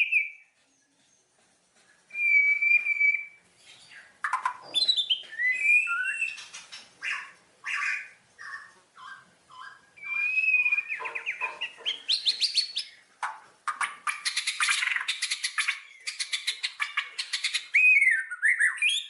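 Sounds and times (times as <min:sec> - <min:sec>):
birds chirping and whistling: 0:00.0 - 0:01.3, 0:02.1 - 0:19.0
harsh scratchy bird calls: 0:00.0 - 0:19.0.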